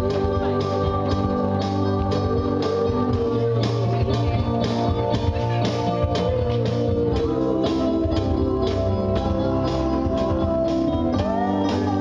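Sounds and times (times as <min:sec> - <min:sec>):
guitar music over a beat: 0:00.0 - 0:12.0.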